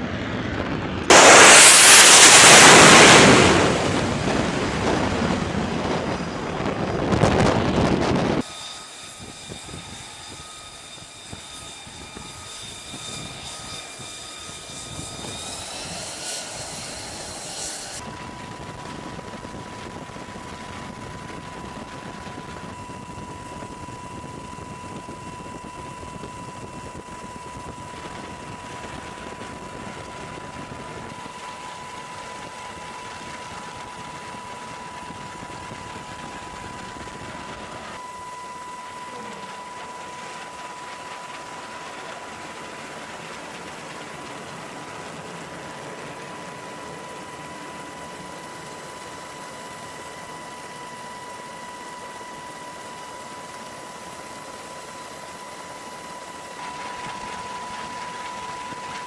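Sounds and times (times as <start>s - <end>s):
jet engine whine and rumble: 0.0s - 59.0s.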